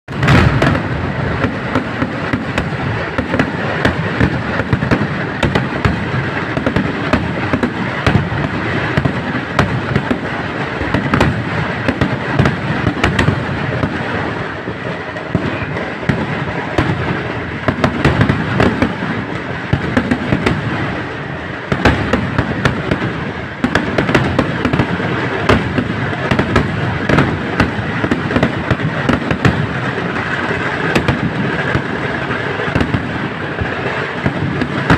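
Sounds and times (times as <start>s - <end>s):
fireworks barrage: 0.1s - 34.9s
loud sharp firework reports: 0.1s - 34.9s.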